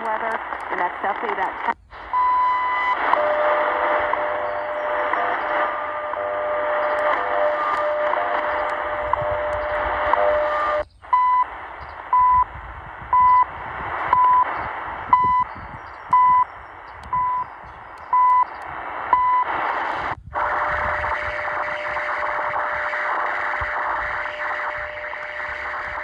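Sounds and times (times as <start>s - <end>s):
hissy signal with steady tones: 0.0s - 12.5s, 13.1s - 26.0s
shortwave static: 0.0s - 26.0s
short radio beeps: 0.1s - 12.5s, 13.1s - 13.5s, 14.1s - 26.0s.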